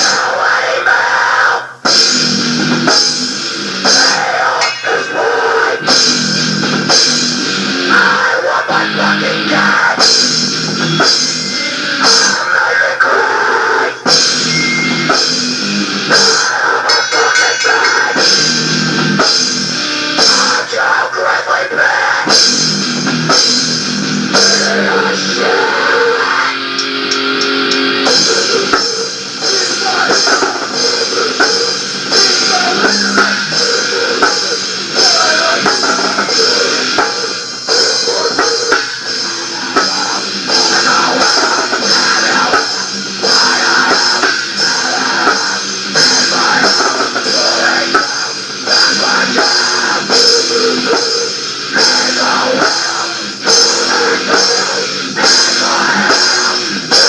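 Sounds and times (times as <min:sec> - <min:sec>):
electric guitar: 0:00.0 - 0:57.0
drum kit beating: 0:01.7 - 0:20.8, 0:22.2 - 0:57.0.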